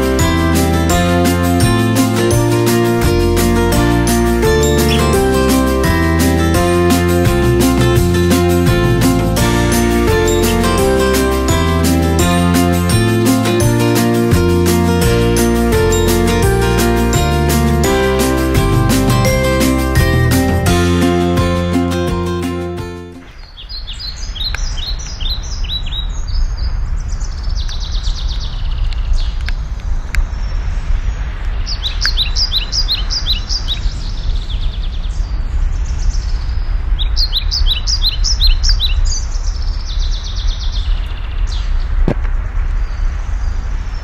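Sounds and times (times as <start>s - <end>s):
songbirds chirping: 0.0s - 42.0s.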